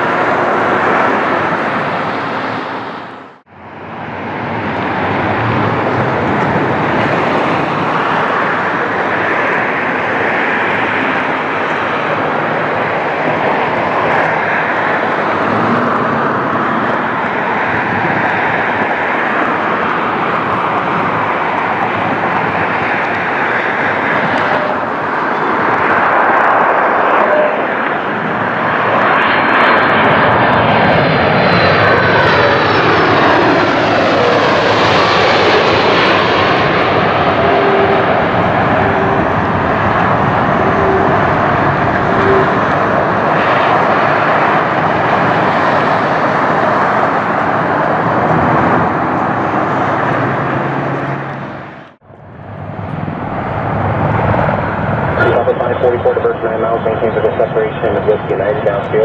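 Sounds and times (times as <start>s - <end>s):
airliner engines roaring: 0.0s - 59.0s.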